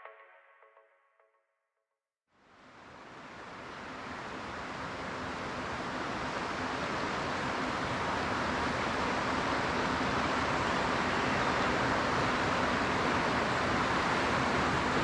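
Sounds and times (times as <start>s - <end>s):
rushing river water: 2.6s - 15.0s.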